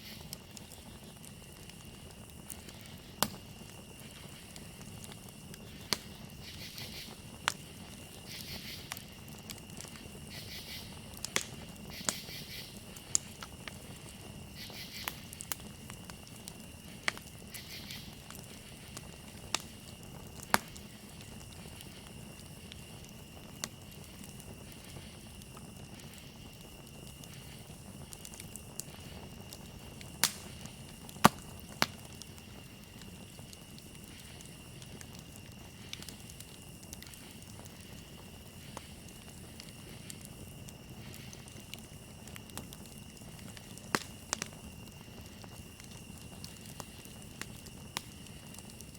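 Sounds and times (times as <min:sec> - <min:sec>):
campfire crackling and popping: 0:00.0 - 0:48.9
crickets trilling: 0:00.0 - 0:48.9.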